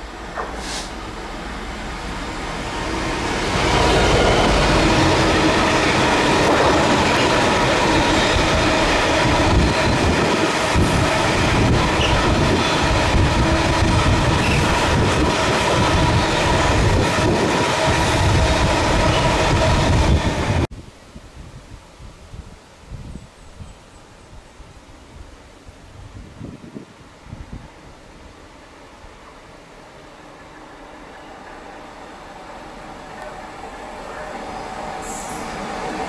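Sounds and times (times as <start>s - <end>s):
freight train rumbling past: 0.0s - 20.7s, 26.4s - 36.0s.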